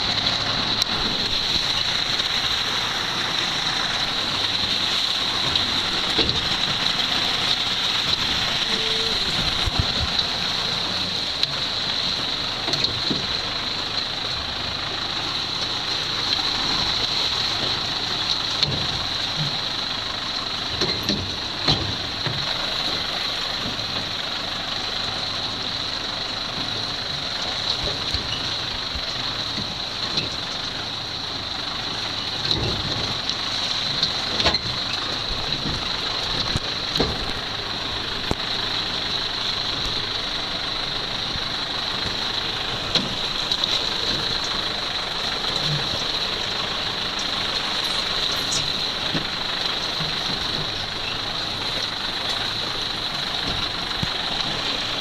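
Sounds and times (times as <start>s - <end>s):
knocks and rattles over rough track: 0.0s - 55.0s
tractor engine running: 0.0s - 55.0s.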